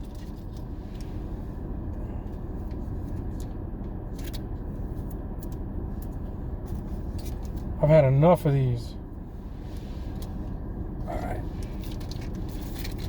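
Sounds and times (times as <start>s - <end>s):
car engine running: 0.0s - 13.0s
low rumble inside car cabin: 0.0s - 13.0s.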